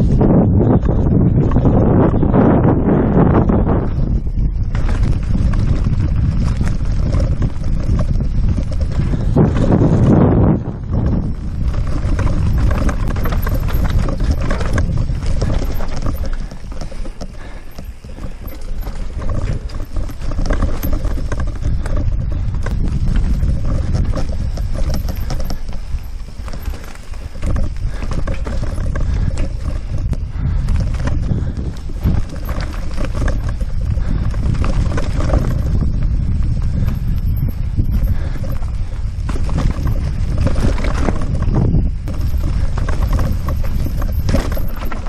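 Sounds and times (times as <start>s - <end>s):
bike rattling and knocking: 0.0s - 45.0s
bike tyres rumbling on dirt: 0.0s - 45.0s
wind on microphone: 0.0s - 45.0s.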